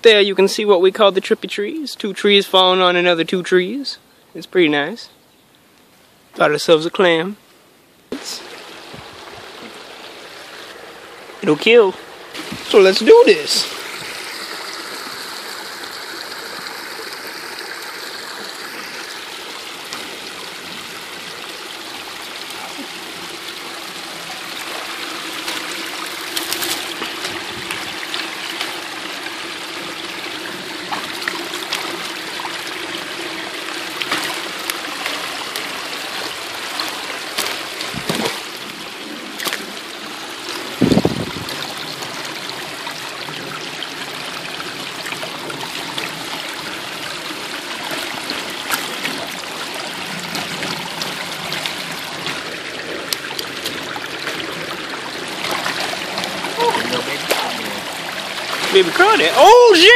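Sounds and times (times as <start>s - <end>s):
creek water trickling: 0.0s - 59.9s.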